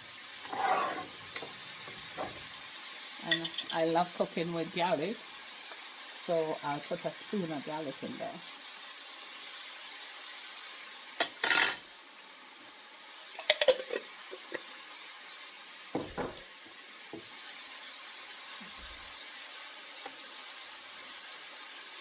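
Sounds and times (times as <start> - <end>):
vegetables sizzling in a pot: 0.0 - 22.0.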